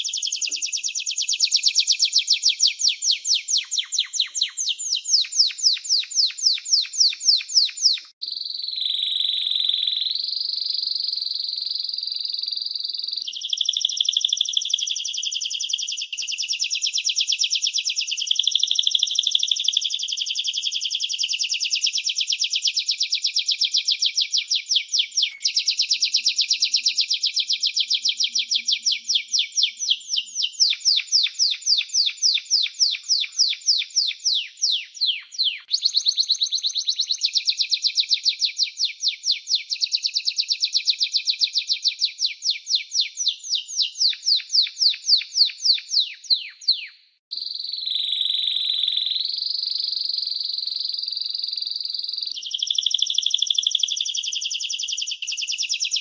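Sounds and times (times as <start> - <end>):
canary singing rapid trills: 0.0 - 56.0.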